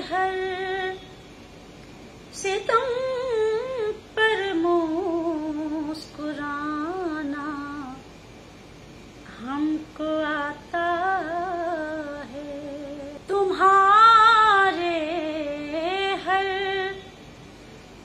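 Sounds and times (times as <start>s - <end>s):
woman singing in long wavering notes: 0.0s - 1.2s, 2.3s - 8.1s, 9.2s - 17.2s.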